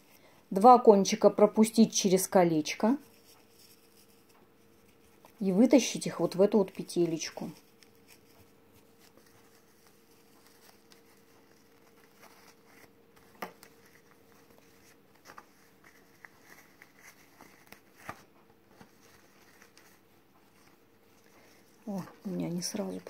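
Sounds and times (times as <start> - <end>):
ribbon rustling and tapping: 3.0 - 23.0.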